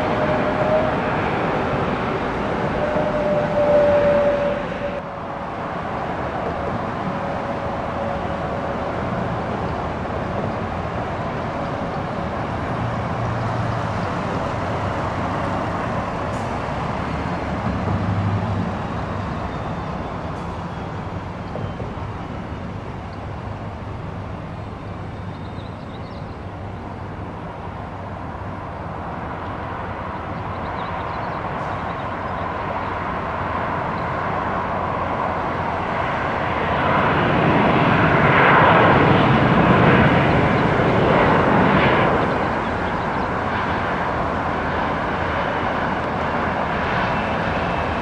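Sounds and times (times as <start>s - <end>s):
jet engines landing: 0.0s - 48.0s.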